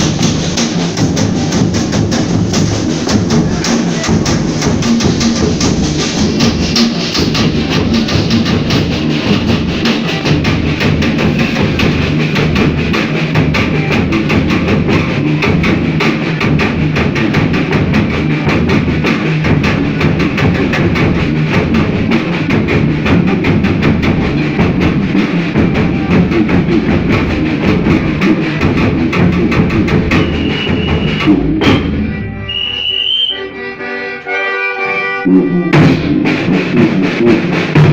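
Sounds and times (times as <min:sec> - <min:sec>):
loud fast drumming: 0:00.0 - 0:33.3, 0:35.6 - 0:37.9
percussion: 0:00.0 - 0:33.3, 0:35.7 - 0:37.9
folk music: 0:00.0 - 0:37.8.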